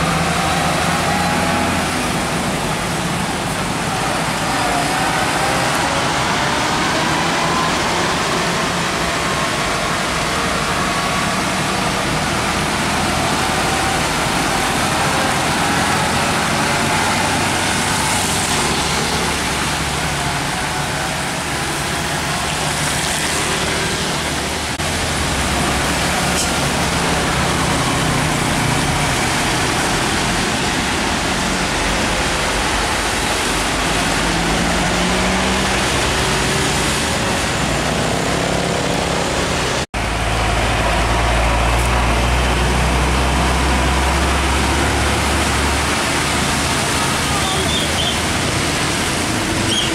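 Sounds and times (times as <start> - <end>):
tyres hissing on wet road: 0.0 - 49.9
vehicle engines droning: 0.0 - 49.9.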